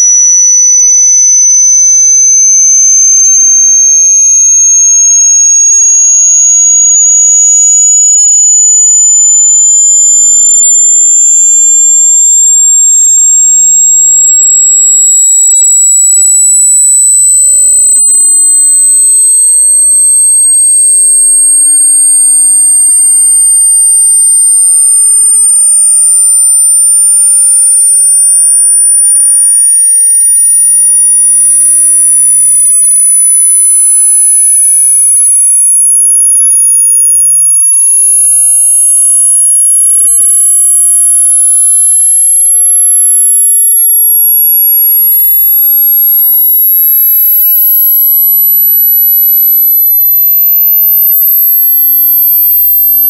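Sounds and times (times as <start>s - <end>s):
high sine-wave test tone sweeping up: 0.0s - 53.0s.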